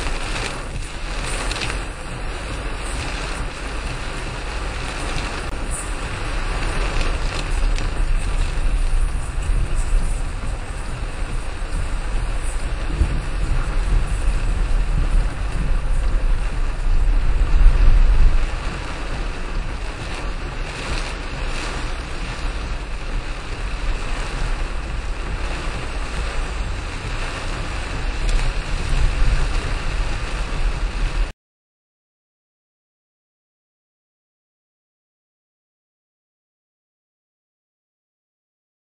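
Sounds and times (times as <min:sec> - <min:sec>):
car deep rumble: 0:00.0 - 0:31.3
heavy rain and road spray: 0:00.0 - 0:31.3.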